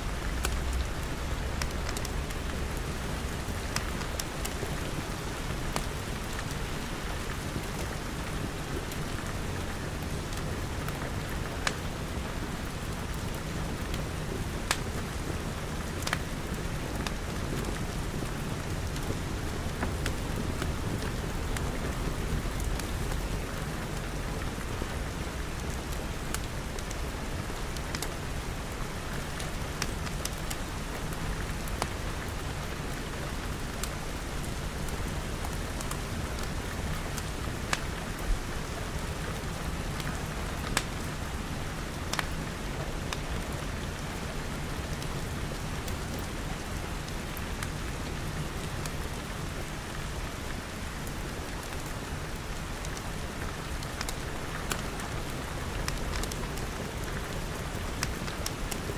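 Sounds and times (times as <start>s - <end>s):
rain pattering on glass: 0.1s - 58.9s
wood fire crackling: 0.1s - 58.9s.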